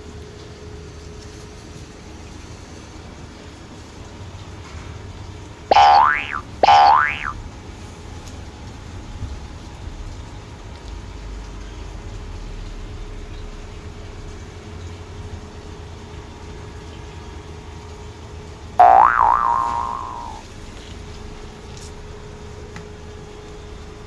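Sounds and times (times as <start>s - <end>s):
faint constant hum: 0.0s - 24.0s.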